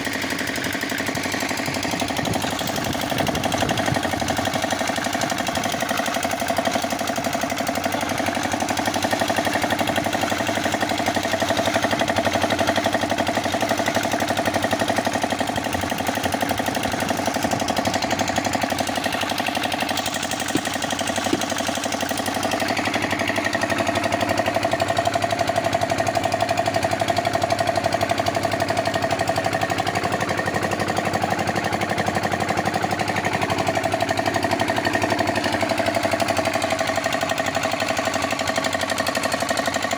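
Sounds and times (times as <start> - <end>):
concrete mixer engine knocking: 0.0 - 39.9.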